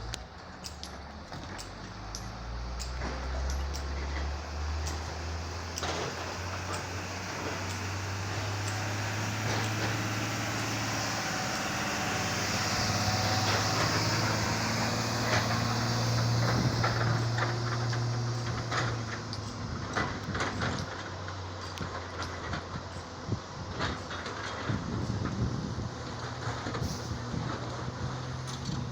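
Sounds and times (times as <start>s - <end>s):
excavator diesel engine: 0.0s - 28.9s.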